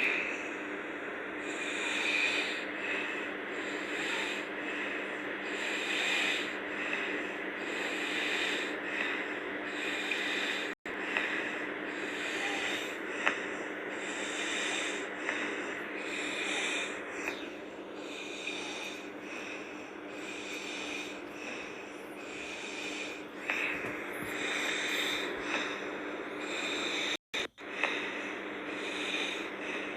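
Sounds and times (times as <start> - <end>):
steady low hum: 0.0 - 29.9
girl snoring: 1.4 - 29.9.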